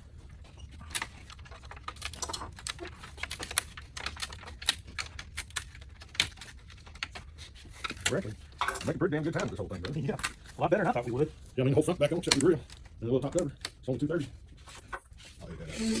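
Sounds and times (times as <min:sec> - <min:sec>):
small parts clicking and rattling: 0:00.1 - 0:15.4.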